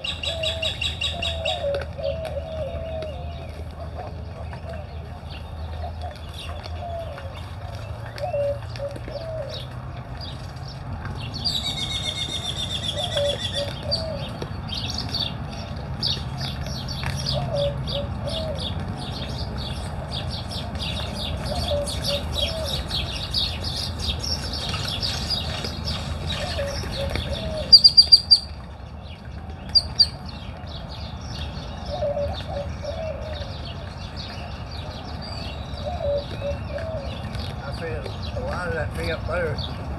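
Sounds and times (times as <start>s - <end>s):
doves cooing: 0.0s - 28.6s, 29.4s - 39.4s
birds chirping: 0.0s - 39.9s.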